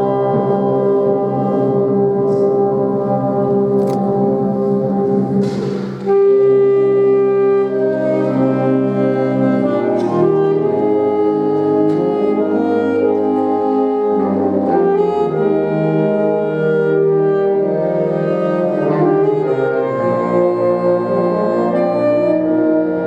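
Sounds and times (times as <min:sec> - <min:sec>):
instrumental music with sustained chords: 0:00.0 - 0:23.0.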